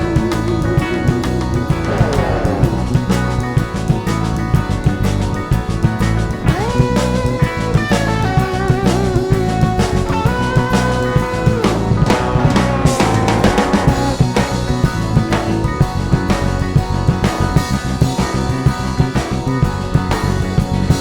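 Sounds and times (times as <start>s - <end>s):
drum kit beat: 0.0s - 21.0s
electric guitar bending notes: 0.0s - 21.0s.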